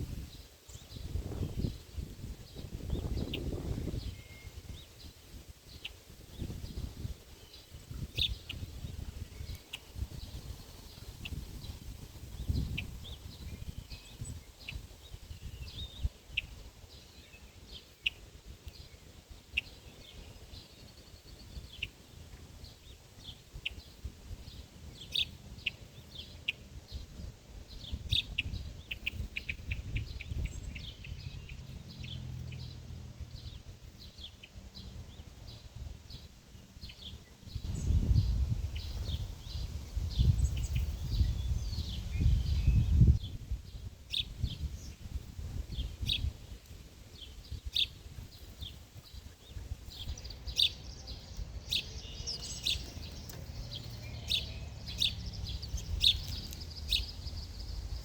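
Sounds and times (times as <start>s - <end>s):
birds chirping: 0.3s - 6.8s, 7.4s - 43.4s, 44.1s - 58.0s.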